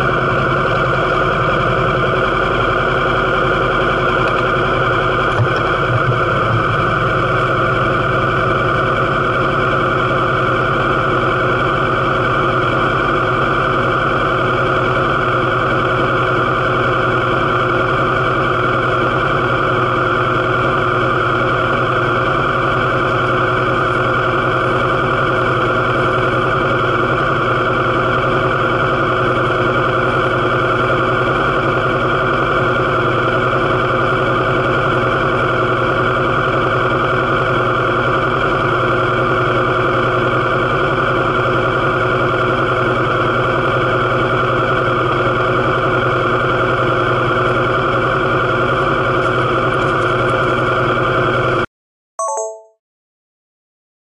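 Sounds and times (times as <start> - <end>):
motorcycle engine idling: 0.0 - 51.6.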